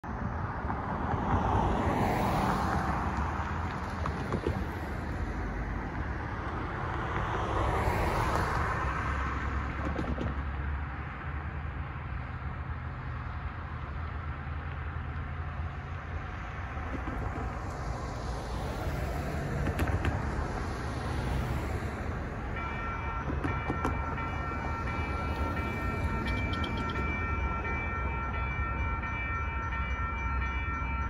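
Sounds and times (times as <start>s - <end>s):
cars driving past: 0.1s - 31.0s.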